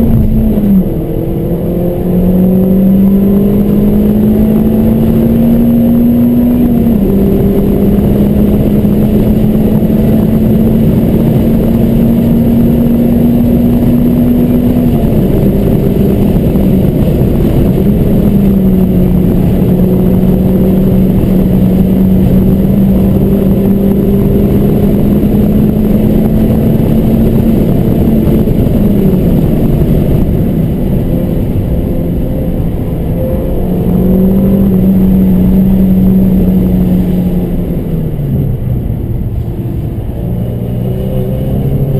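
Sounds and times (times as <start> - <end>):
car engine running hard: 0.0 - 41.9
wind and tyre noise: 0.0 - 41.9.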